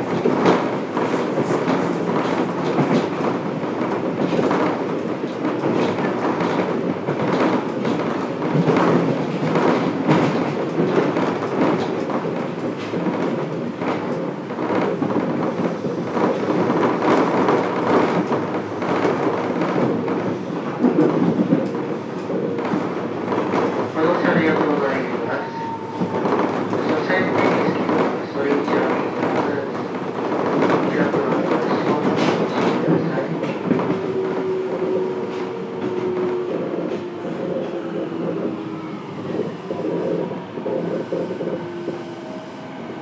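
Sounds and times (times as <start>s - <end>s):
train wheels rumbling: 0.0s - 43.0s
wheels clacking over rail joints: 0.0s - 43.0s.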